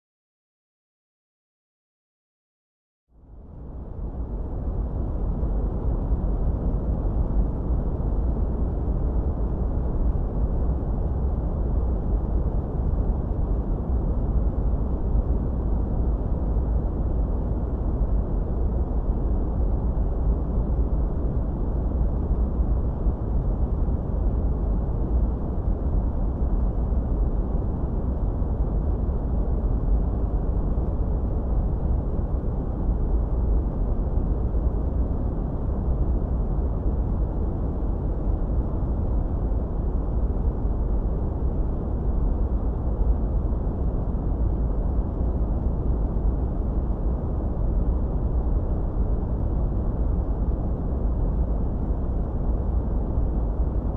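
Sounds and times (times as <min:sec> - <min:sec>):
muffled low white noise: 0:03.1 - 0:53.9.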